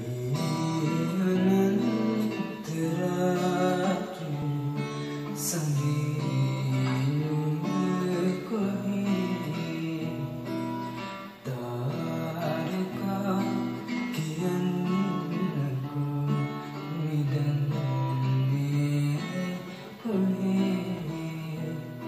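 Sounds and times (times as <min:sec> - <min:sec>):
acoustic guitar strummed: 0:00.0 - 0:22.0
man singing: 0:00.0 - 0:22.0.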